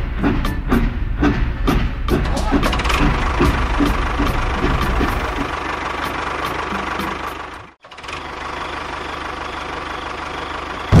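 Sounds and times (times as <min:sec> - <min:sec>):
tractor engine knocking: 0:00.0 - 0:11.0.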